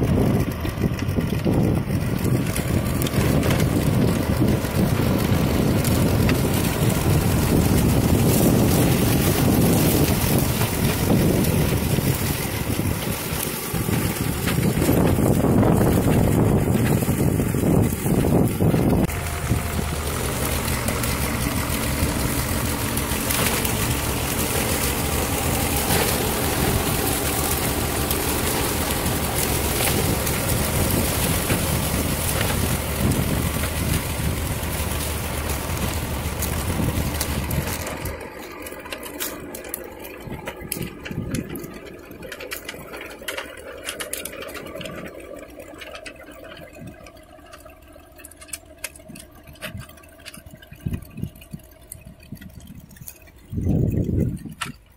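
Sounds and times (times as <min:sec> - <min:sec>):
tractor engine running under load: 0:00.0 - 0:54.9.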